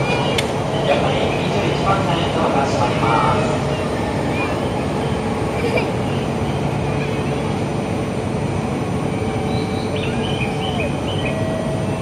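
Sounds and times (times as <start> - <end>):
train hum and rush: 0.0 - 12.0.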